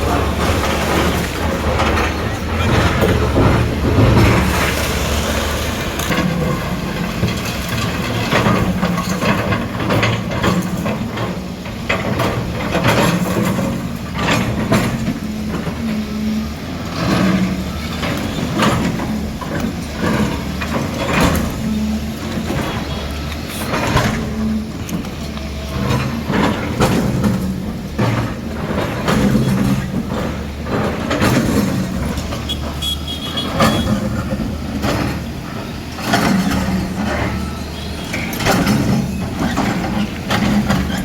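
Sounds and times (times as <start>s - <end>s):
debris clattering and crunching: 0.0s - 41.0s
diesel engine rumble: 0.0s - 41.0s.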